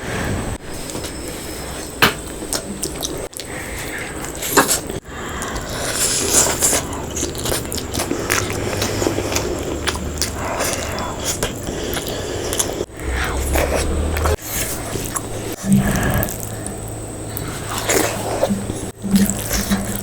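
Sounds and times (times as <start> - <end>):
chewing and crunching: 0.8 - 20.0
wet mouth sounds: 1.8 - 20.0.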